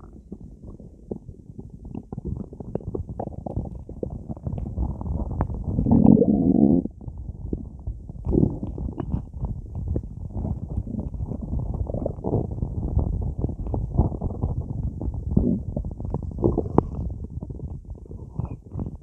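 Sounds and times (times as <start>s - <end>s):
small pops and bubbling: 0.0s - 19.0s
stomach gurgling and rumbling: 0.0s - 19.0s.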